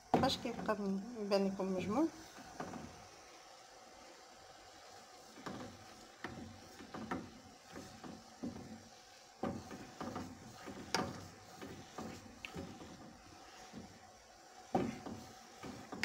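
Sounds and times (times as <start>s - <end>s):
wooden spatula scraping a saucepan: 0.1s - 3.2s, 4.3s - 16.0s.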